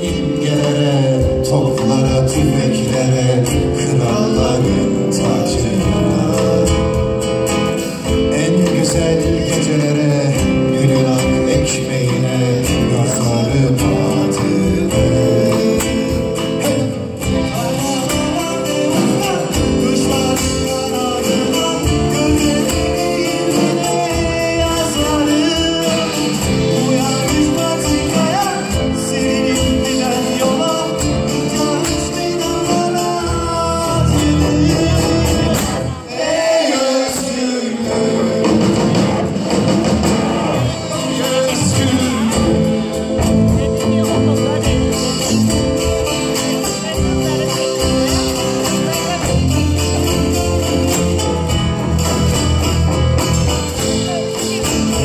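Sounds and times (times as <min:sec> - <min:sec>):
folk-rock band playing: 0:00.0 - 0:55.0
man singing into a microphone: 0:00.0 - 0:55.0.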